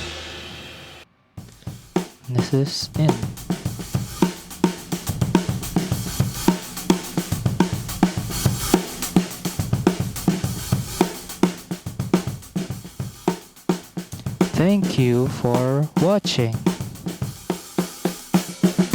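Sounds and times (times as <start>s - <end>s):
drum kit groove: 0.0s - 18.9s.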